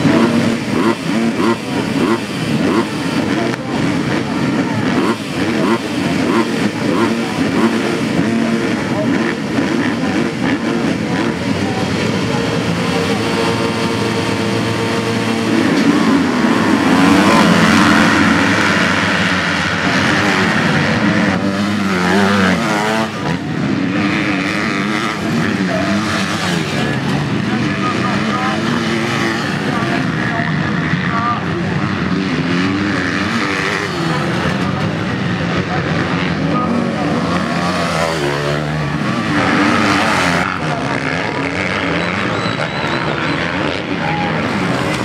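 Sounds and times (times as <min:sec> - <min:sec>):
motocross bikes revving: 0:00.0 - 0:45.0
motorbikes riding past: 0:00.0 - 0:45.0.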